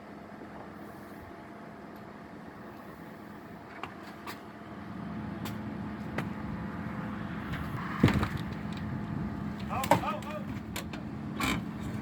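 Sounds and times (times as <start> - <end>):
backhoe engine running: 0.0 - 12.0.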